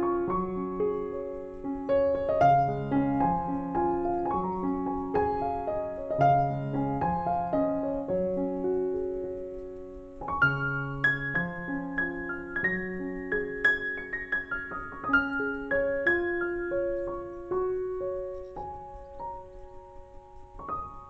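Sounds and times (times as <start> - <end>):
calm piano music: 0.0 - 21.0.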